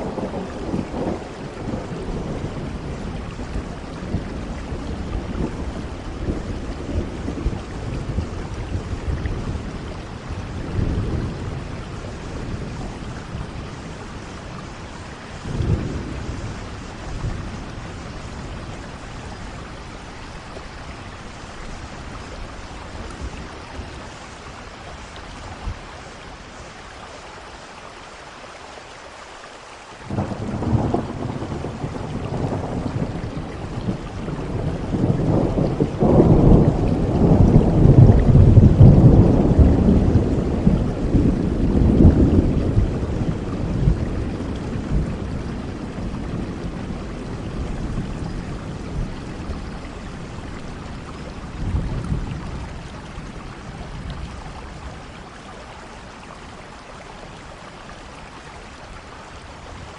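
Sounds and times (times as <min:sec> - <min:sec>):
thunder rumbling: 0:00.0 - 0:26.4, 0:30.0 - 0:55.2
steady rain falling: 0:00.0 - 0:59.9.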